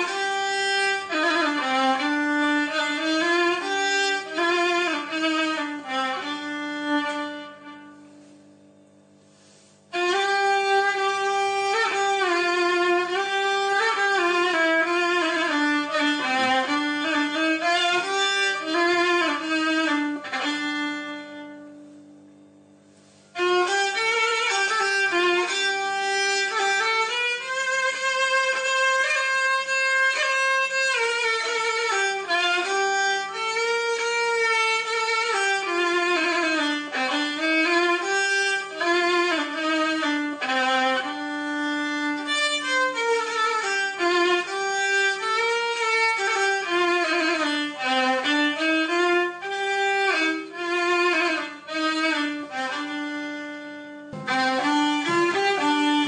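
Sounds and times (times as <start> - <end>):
solo violin melody: 0.0 - 8.3, 9.4 - 21.9, 23.3 - 56.0.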